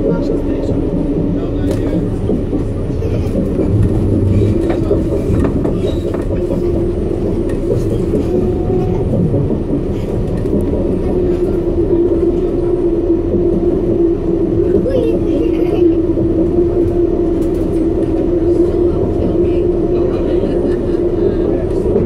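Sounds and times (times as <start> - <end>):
train car hum and rumble: 0.0 - 22.0.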